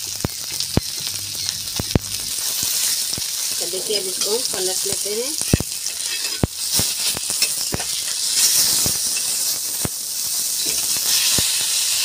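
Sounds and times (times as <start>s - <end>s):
fish sizzling in oil: 0.0s - 12.0s
oil popping and crackling: 0.0s - 12.0s.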